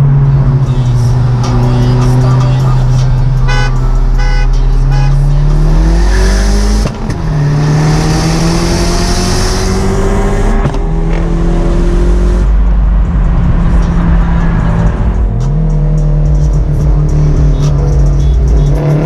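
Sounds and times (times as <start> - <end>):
turbocharged car engine accelerating: 0.0 - 19.0.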